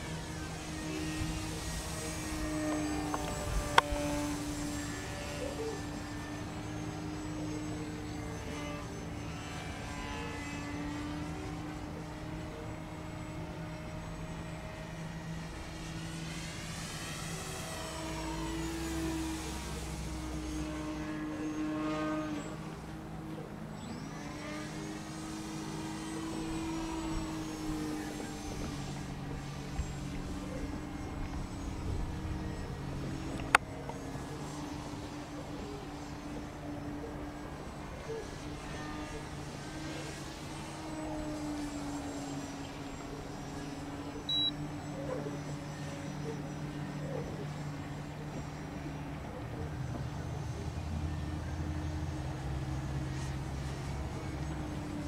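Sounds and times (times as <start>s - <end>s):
model plane motor droning: 0.0s - 55.0s.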